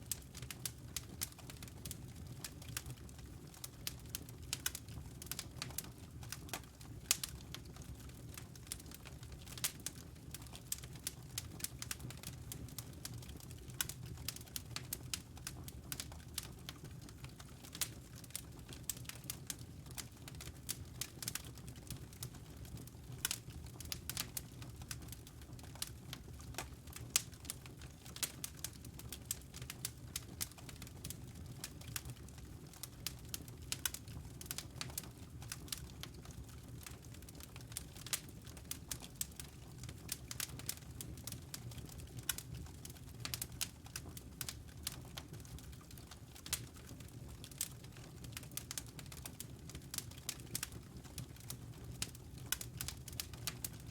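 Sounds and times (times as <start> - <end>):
low rumble of flames: 0.0 - 53.6
fire crackling and popping: 0.0 - 53.9.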